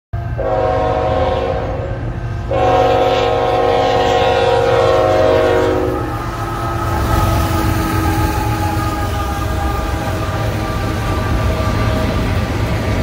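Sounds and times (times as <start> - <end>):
train rumbling: 0.2 - 13.0
locomotive air horn blasts: 0.3 - 12.3.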